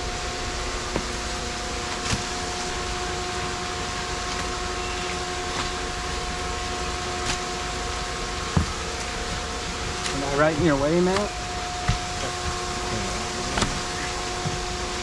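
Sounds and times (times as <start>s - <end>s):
machinery hum with held tones: 0.0s - 15.0s.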